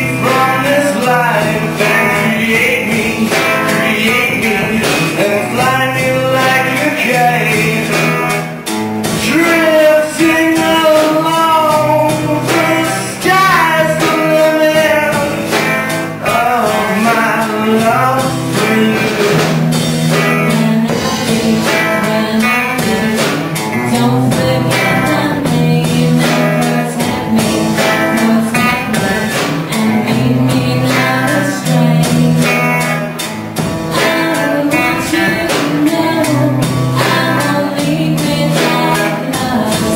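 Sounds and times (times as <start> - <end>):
song with singing and guitar: 0.0 - 39.9.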